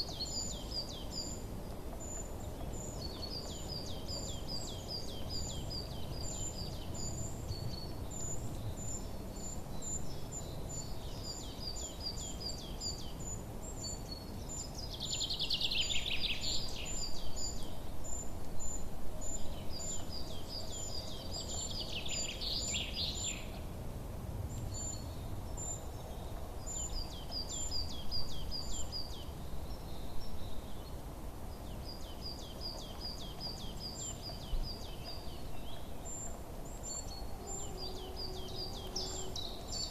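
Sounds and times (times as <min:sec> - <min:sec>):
bird trilling song: 0:00.0 - 0:23.6, 0:24.7 - 0:31.0, 0:31.6 - 0:39.9
low background noise: 0:00.0 - 0:39.9
small songbirds chirping: 0:00.0 - 0:39.9.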